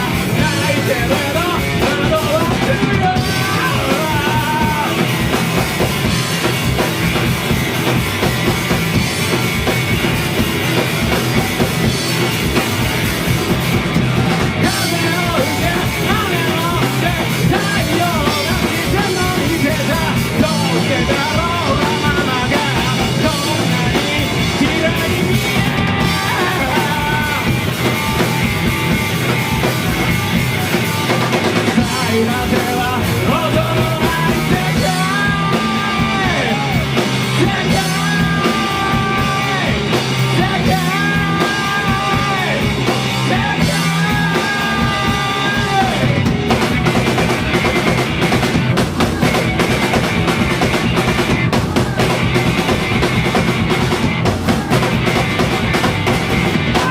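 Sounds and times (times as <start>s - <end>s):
rock band playing loud: 0.0s - 56.9s.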